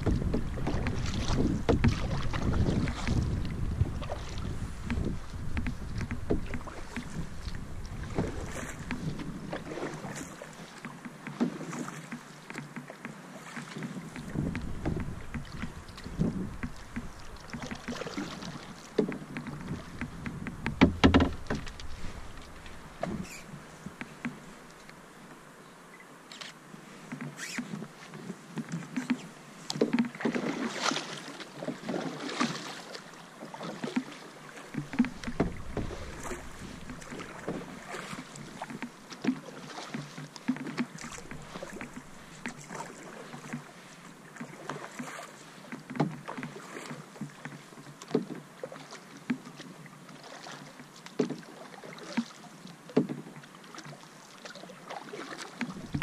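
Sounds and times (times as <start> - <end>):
paddle knocks: 0.0 - 24.9, 27.1 - 32.8, 33.6 - 43.7, 44.3 - 50.6, 51.2 - 54.0, 54.9 - 56.0
paddle splashing in water: 0.0 - 56.0.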